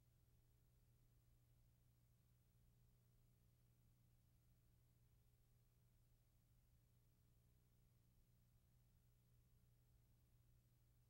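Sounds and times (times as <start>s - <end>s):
faint low hum and hiss: 0.0s - 11.0s.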